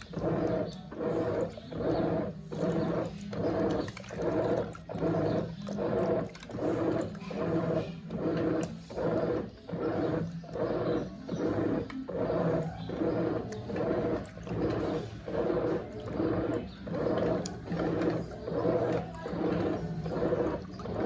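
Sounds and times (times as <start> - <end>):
washing machine motor hum: 0.0 - 21.0
water churning in pulses: 0.0 - 21.0.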